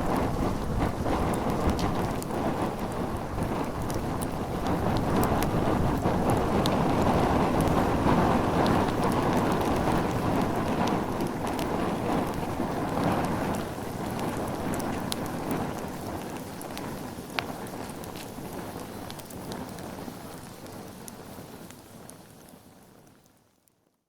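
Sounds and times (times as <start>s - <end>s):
campfire flames rushing: 0.0s - 23.3s
fire crackles and pops: 0.0s - 23.8s.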